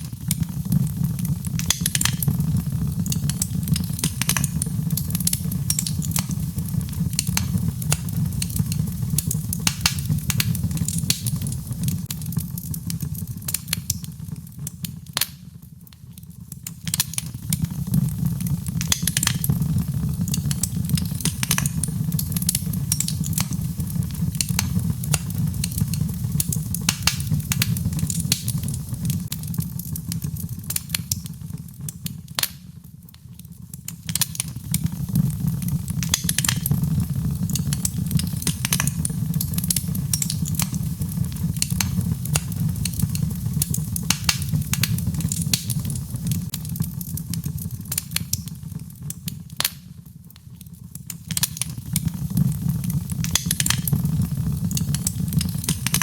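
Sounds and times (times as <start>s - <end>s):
logs burning in a fireplace: 0.0s - 56.0s.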